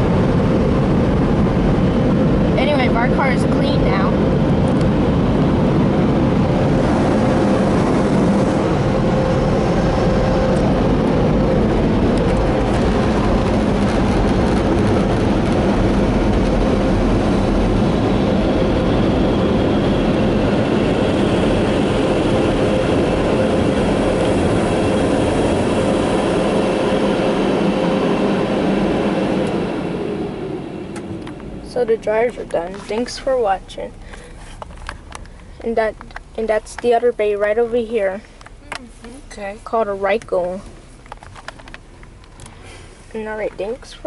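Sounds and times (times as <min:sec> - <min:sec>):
blower dryers rushing air: 0:00.0 - 0:44.0.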